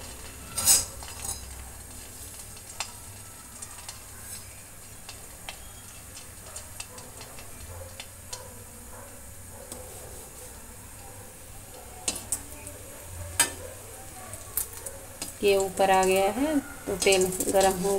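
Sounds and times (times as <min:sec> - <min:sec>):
oil sizzling: 0:00.0 - 0:17.9.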